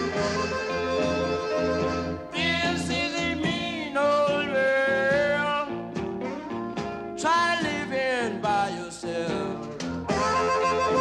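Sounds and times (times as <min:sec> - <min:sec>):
song with singing and guitar: 0:00.0 - 0:11.0.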